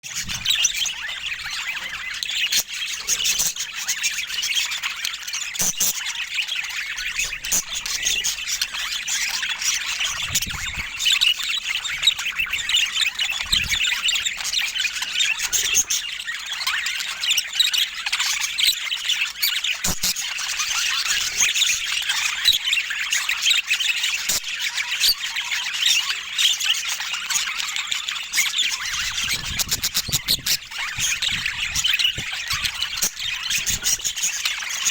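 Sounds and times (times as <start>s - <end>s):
budgies chattering and chirping: 0.0s - 34.9s.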